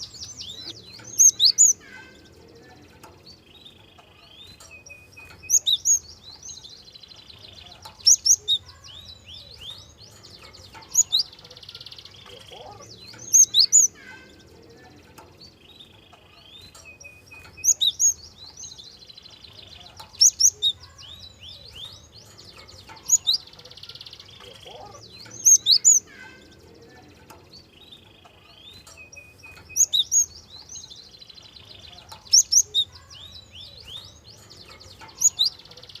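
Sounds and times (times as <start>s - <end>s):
bird song sharp high notes: 0.0s - 36.0s.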